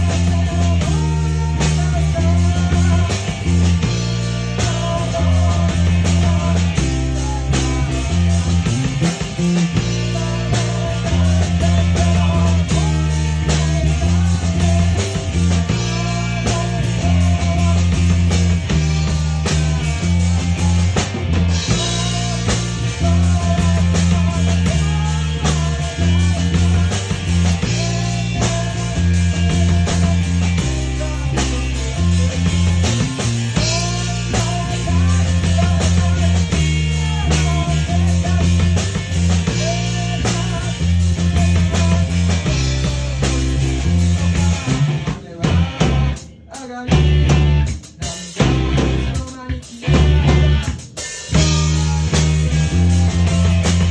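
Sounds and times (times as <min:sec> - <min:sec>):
rock band playing instrumental: 0:00.0 - 0:53.9.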